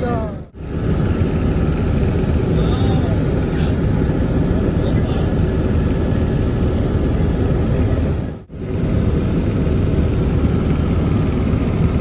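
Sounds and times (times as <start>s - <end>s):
helicopter cabin drone: 0.0s - 12.0s.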